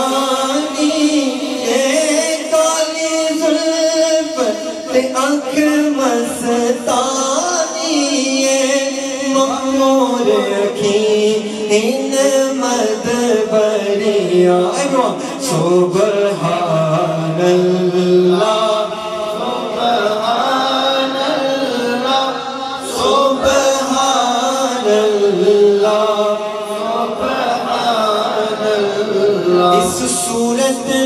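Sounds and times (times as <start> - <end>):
male voices chanting: 0.0 - 31.0.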